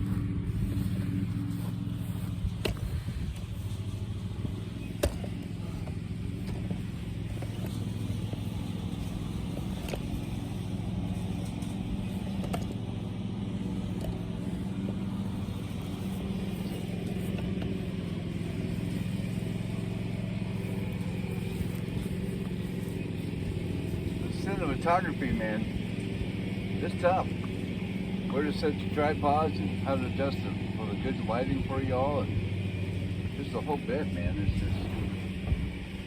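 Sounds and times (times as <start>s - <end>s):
string trimmer engine running: 0.0s - 36.0s.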